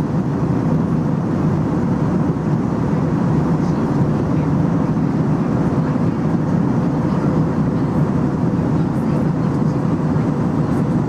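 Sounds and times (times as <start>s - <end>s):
air rushing along fuselage: 0.0s - 11.0s
jet engines droning: 0.0s - 11.0s.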